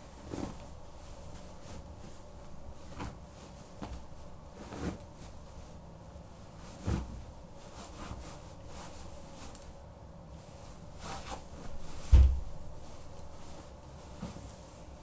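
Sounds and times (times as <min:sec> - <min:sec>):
muffled footsteps on duvet: 0:00.0 - 0:09.5, 0:10.4 - 0:15.0.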